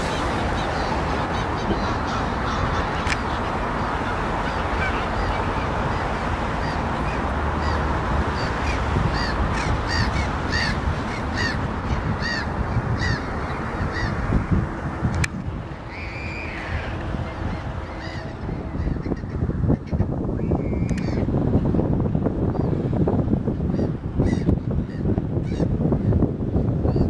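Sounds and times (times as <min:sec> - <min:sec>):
gulls calling: 0:00.0 - 0:22.9, 0:23.5 - 0:26.2.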